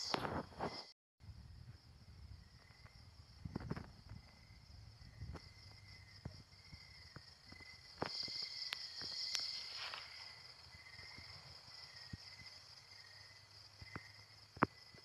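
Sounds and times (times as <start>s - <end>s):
lower insect trill: 0.0s - 15.0s
high-pitched insect trilling: 2.4s - 15.0s.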